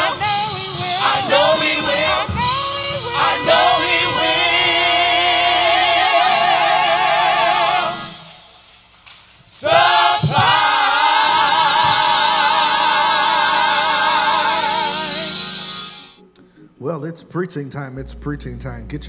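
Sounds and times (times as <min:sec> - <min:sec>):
choir singing in harmony: 0:00.0 - 0:08.8, 0:09.4 - 0:16.2.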